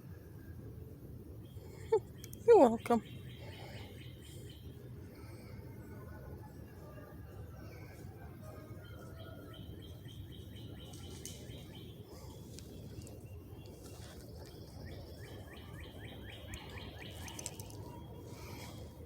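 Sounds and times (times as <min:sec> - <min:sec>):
songbirds singing: 0:00.6 - 0:19.0.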